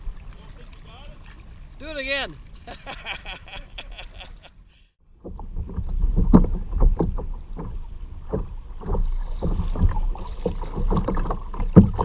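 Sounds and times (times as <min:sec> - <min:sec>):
water sloshing and splashing: 0:00.0 - 0:04.3, 0:05.0 - 0:12.0.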